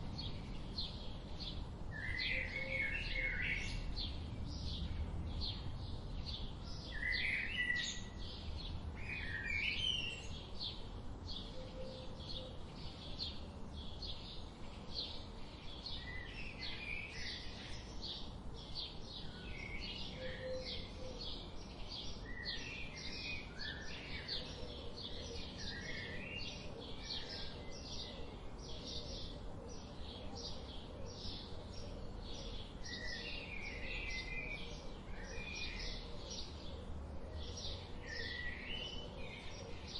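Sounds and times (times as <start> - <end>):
birds warbling and chirping: 0.0 - 39.9.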